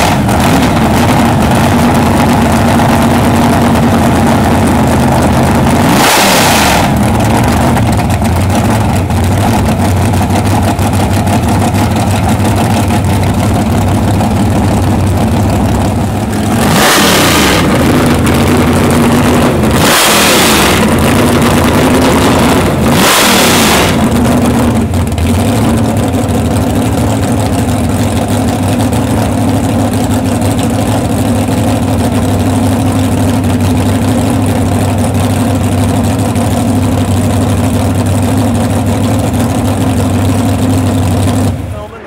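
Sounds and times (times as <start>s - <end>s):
engine idling: 0.0s - 42.0s
engine revving: 0.0s - 42.0s.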